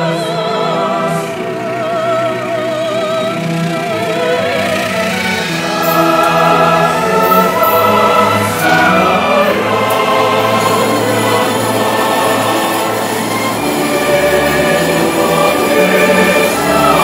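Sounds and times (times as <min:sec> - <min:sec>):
music with singing voices: 0:00.0 - 0:17.0.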